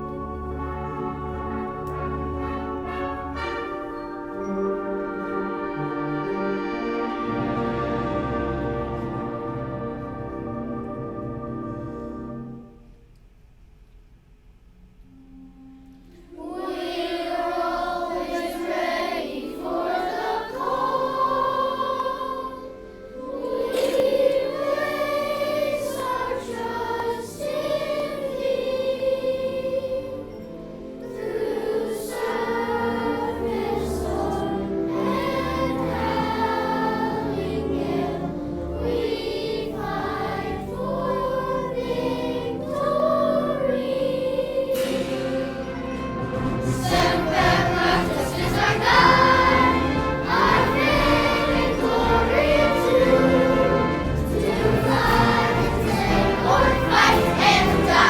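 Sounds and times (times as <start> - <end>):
children's choir singing: 0.0 - 12.9, 16.1 - 58.0
instrumental accompaniment: 0.0 - 13.4, 15.0 - 58.0.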